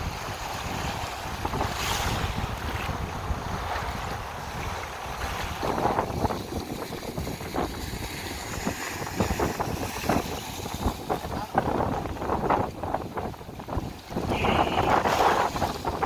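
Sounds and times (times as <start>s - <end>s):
small waves washing on sand: 0.0s - 16.0s
wind buffeting microphone: 0.0s - 16.0s.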